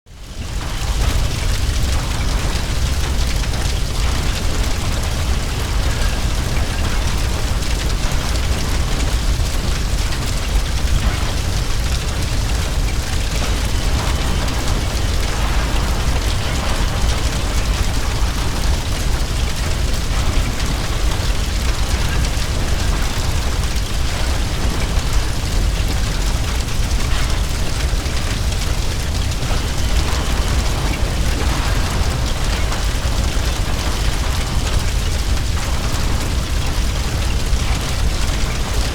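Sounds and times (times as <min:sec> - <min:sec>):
fire crackling and popping: 0:00.1 - 0:38.9
low roar of fire: 0:00.2 - 0:38.9.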